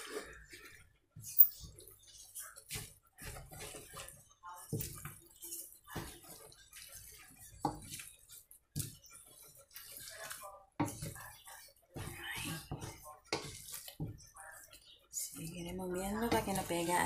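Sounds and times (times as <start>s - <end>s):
wooden spatula scraping a wok: 0.0s - 17.0s.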